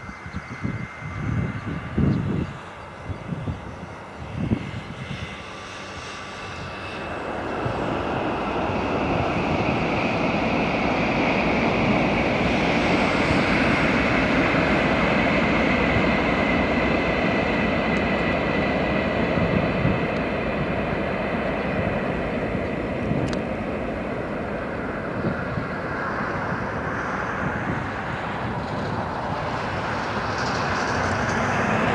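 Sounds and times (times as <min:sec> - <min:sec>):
train rumbling across bridge: 0:03.9 - 0:31.9.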